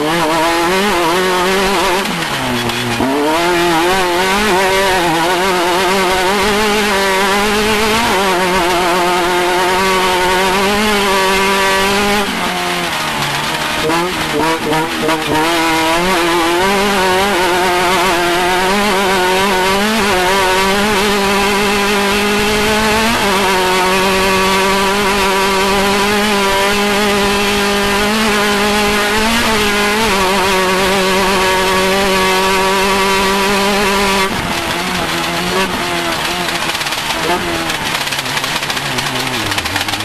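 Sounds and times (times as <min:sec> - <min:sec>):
engine running at high revs: 0:00.0 - 0:40.0.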